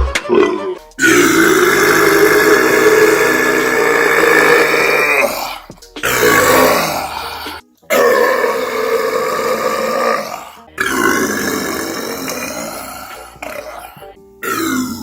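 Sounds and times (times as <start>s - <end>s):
man burping loudly: 0.3s - 15.0s.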